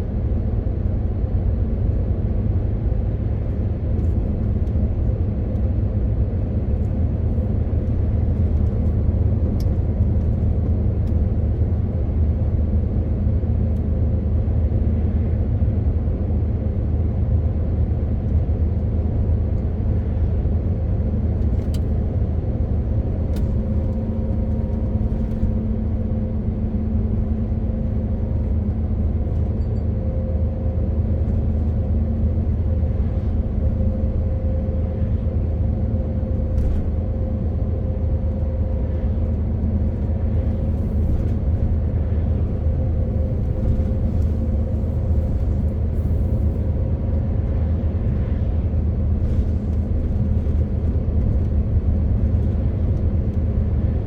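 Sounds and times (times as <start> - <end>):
road rumble: 0.0 - 54.0
truck diesel engine drone: 0.0 - 54.0.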